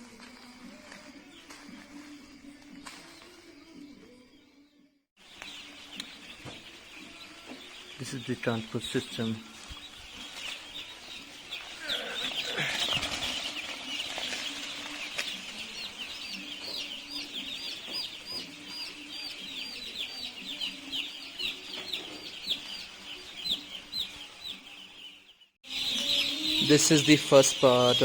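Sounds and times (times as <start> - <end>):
chicks peeping: 0.0 - 4.5, 5.2 - 28.0.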